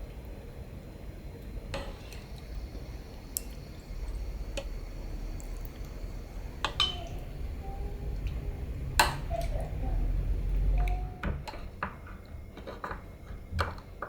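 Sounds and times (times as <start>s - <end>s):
low steady background noise: 0.0s - 14.0s.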